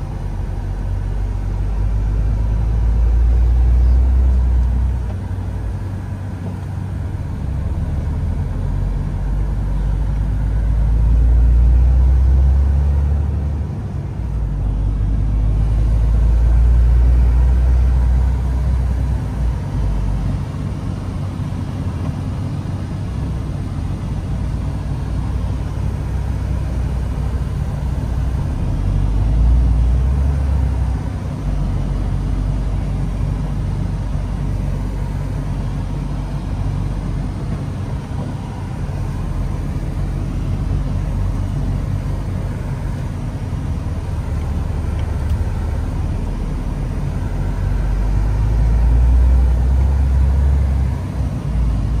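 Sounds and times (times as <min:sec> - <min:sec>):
road noise: 0:00.0 - 0:52.0
truck diesel engine rumble: 0:00.0 - 0:52.0.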